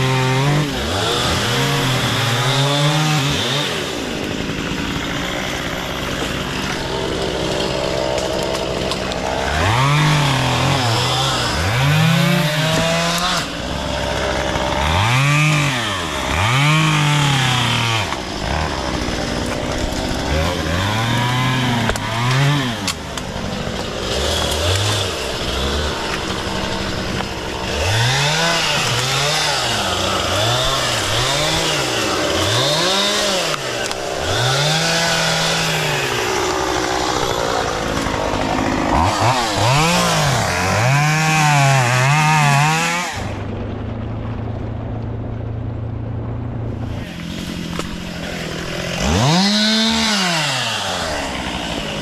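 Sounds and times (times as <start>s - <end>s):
chainsaw engine revving: 0.0s - 43.5s, 46.8s - 52.0s.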